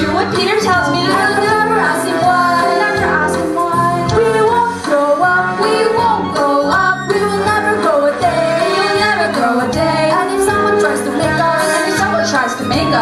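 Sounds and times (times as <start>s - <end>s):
instrumental accompaniment with beat: 0.0s - 13.0s
women singing: 0.0s - 13.0s.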